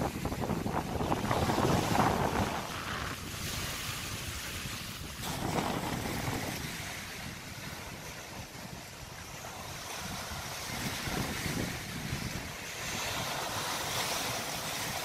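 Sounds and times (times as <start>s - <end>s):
waves breaking on pebble shore: 0.0s - 15.0s
wind rumbling on microphone: 0.0s - 15.0s.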